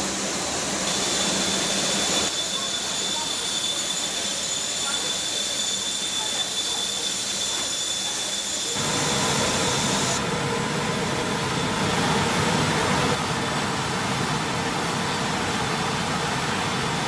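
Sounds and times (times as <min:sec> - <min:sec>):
industrial oven machine noise: 0:00.0 - 0:17.0.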